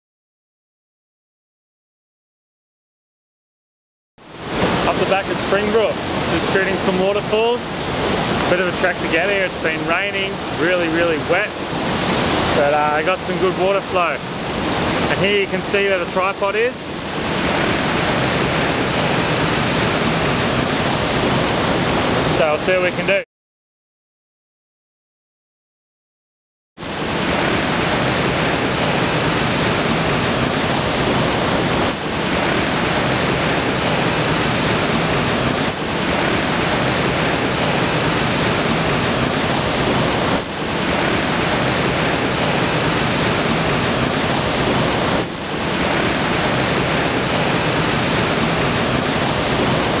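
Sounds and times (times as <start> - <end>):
waterfall rushing: 4.2 - 23.2, 26.8 - 50.0.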